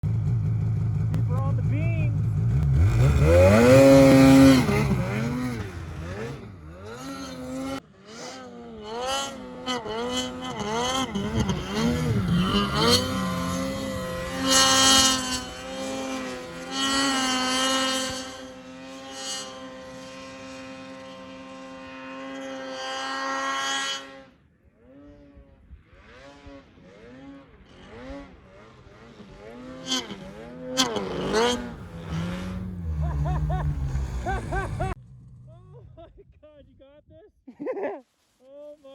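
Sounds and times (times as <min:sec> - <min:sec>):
snowmobile engine revving: 0:00.1 - 0:36.6.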